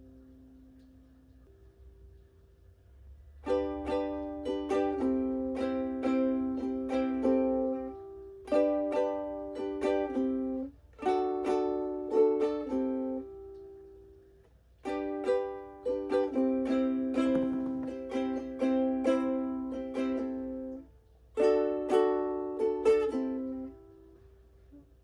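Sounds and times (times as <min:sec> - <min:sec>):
ukulele chord strumming: 0:03.4 - 0:25.0.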